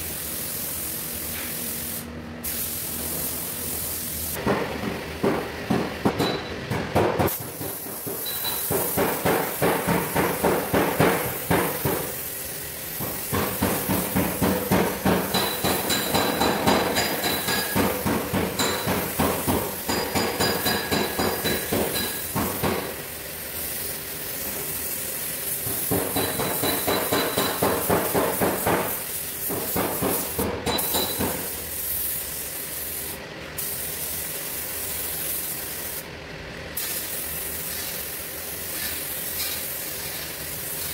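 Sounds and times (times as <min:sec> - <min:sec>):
spray gun hissing: 0:00.0 - 0:04.4, 0:07.3 - 0:36.1, 0:36.8 - 0:40.9.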